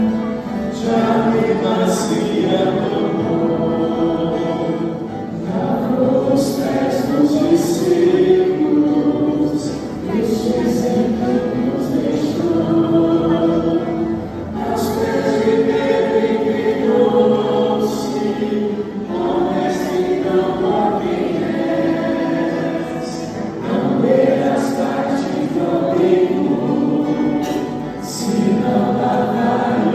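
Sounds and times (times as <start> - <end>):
choir singing a hymn: 0.0 - 29.9.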